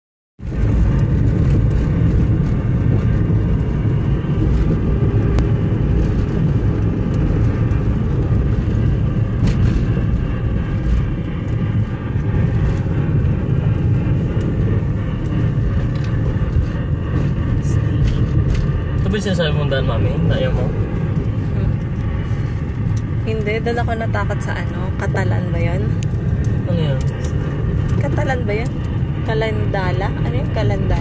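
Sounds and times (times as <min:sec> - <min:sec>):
car engine and tyre rumble: 0:00.4 - 0:31.0.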